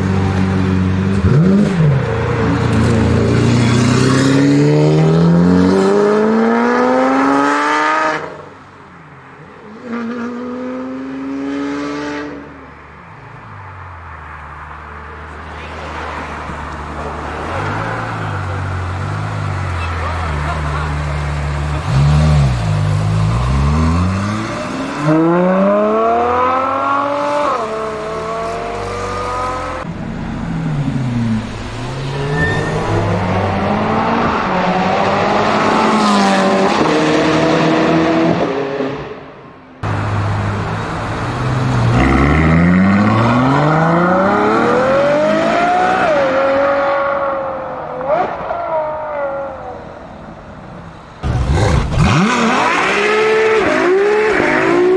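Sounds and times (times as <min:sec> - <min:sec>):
car engines accelerating hard: 0:00.0 - 0:08.5, 0:14.8 - 0:49.8, 0:51.0 - 0:54.9.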